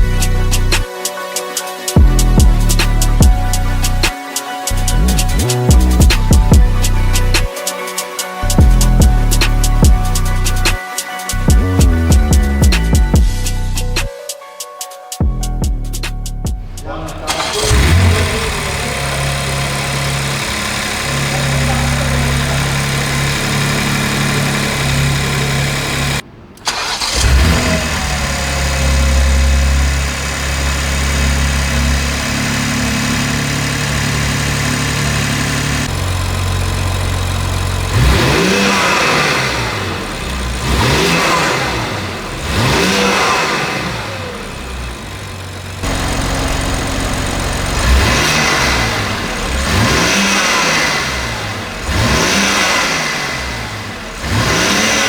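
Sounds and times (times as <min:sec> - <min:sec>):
car engine idling and revving: 0:00.0 - 0:01.0, 0:01.8 - 0:14.1, 0:15.2 - 0:55.0.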